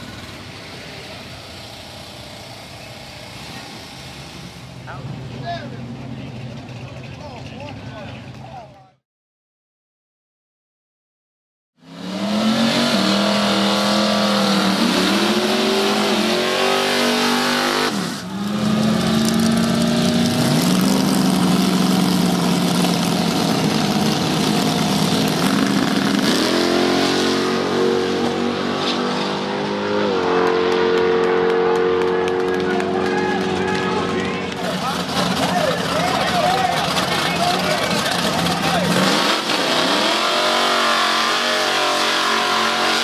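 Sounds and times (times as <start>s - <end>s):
drag racing car engines revving: 0.0s - 8.8s, 11.8s - 43.0s.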